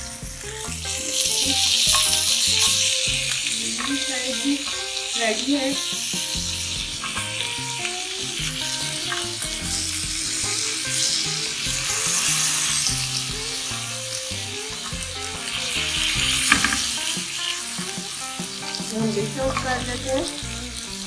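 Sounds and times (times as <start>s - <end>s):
chicken sizzling on a grill pan: 0.0s - 21.0s.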